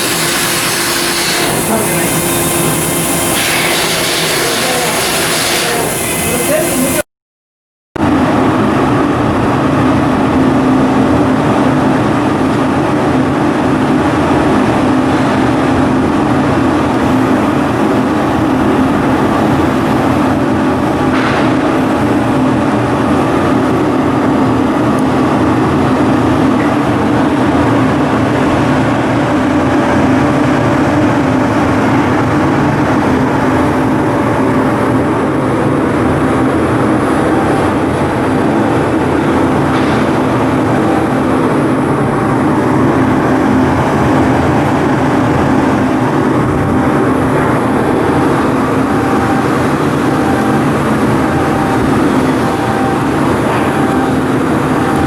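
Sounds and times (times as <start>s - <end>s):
ship diesel engine running: 0.0s - 7.0s, 8.0s - 55.0s.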